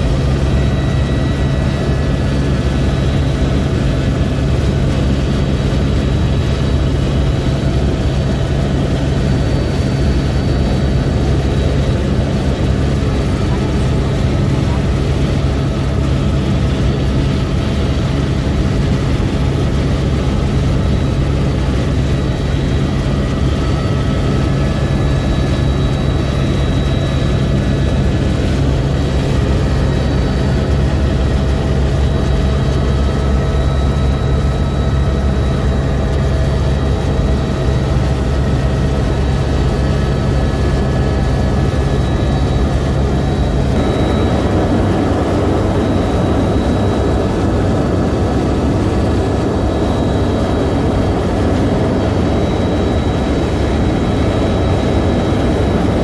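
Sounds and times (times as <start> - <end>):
helicopter rotor and engine noise: 0.0 - 56.0.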